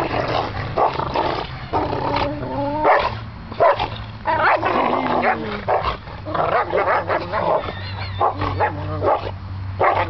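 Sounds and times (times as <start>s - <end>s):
dogs barking and growling: 0.0s - 10.0s.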